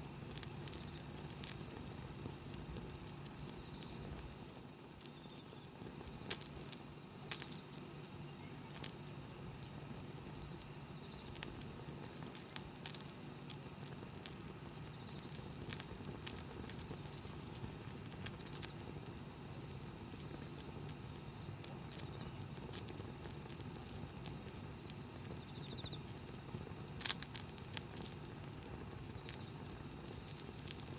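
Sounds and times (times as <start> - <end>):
campfire crackling and popping: 0.0 - 30.9
insect trill: 0.0 - 30.9.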